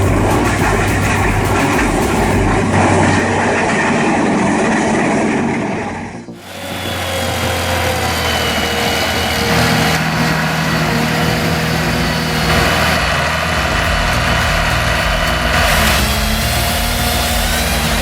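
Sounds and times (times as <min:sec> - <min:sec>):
heavy machinery engine running: 0:00.0 - 0:18.0.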